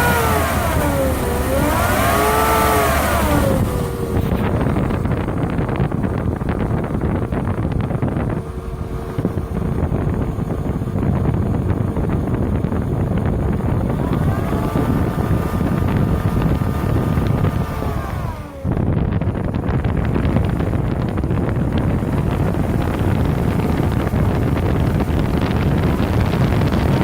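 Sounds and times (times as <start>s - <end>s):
car engine running: 0.0s - 27.0s
high-pitched engine whine: 0.0s - 27.0s
wind noise: 0.0s - 27.0s.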